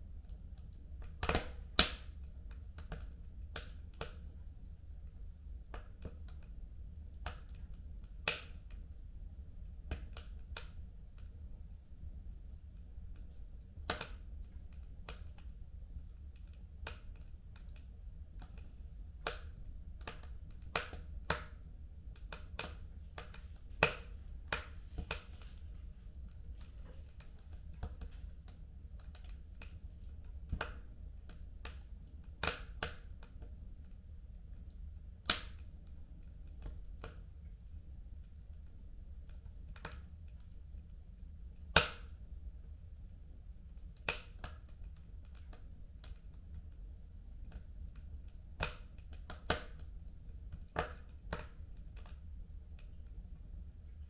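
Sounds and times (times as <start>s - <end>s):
fire crackling and popping: 0.1s - 54.0s.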